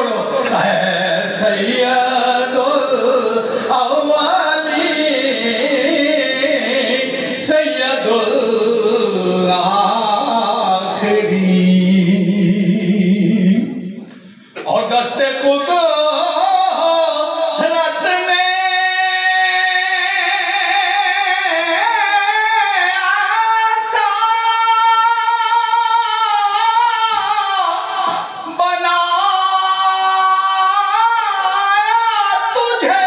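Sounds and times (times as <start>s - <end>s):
elderly man singing unaccompanied: 0.0s - 13.6s, 15.2s - 33.0s.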